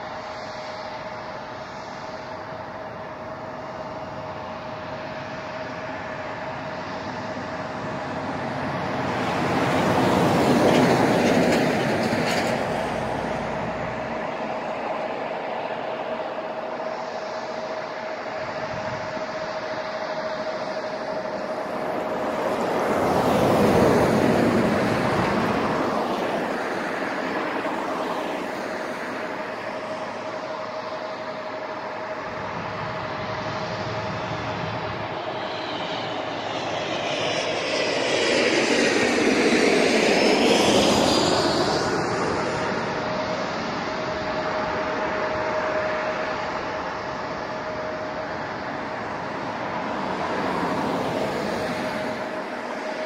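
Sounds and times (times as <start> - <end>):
jet engines rumbling and whining: 0.0 - 53.0.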